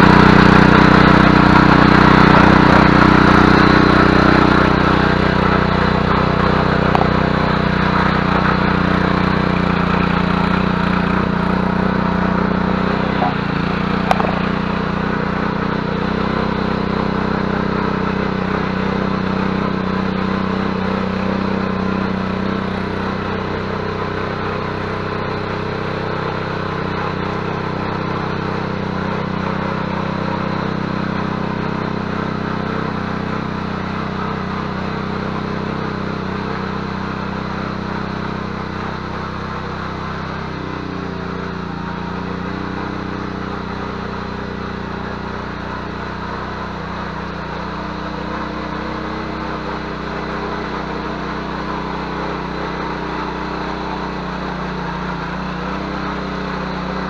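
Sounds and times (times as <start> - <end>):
motor hoe engine running: 0.0 - 57.0.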